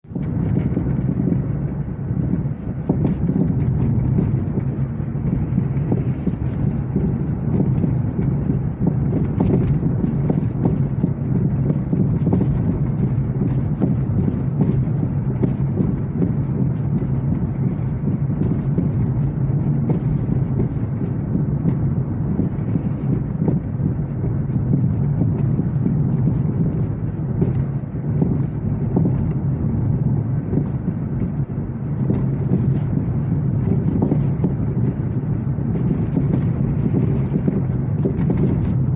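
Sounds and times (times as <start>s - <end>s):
vehicle low rumble: 0.0s - 38.9s
suspension knocking: 0.1s - 38.9s.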